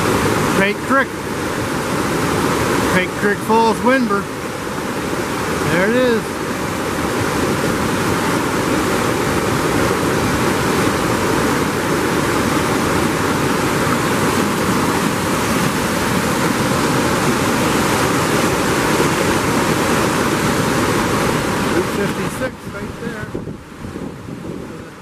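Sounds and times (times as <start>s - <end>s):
rapids rushing over boulders: 0.0s - 25.0s.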